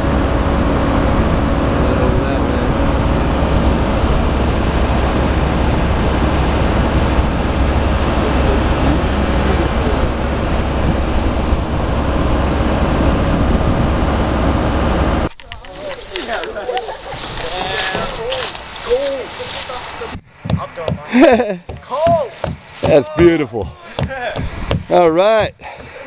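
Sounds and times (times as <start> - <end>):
loud rumble and hiss: 0.0 - 25.6.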